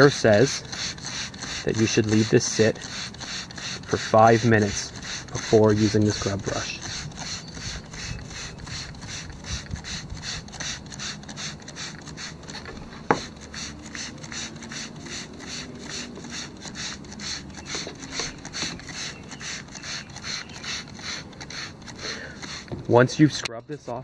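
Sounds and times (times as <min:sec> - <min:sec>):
spray bottle squirts: 0:00.0 - 0:23.4.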